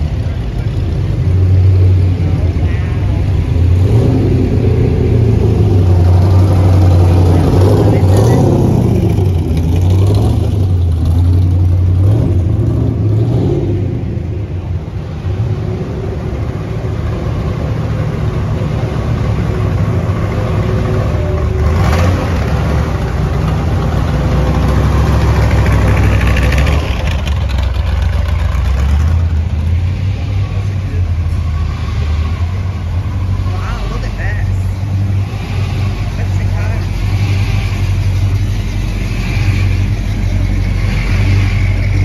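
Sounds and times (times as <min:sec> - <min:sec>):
car engines rumbling: 0:00.0 - 0:42.0.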